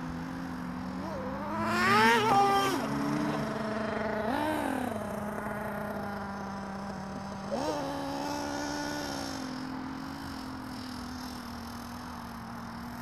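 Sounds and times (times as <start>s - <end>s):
rc truck motor revving: 0.0s - 13.0s.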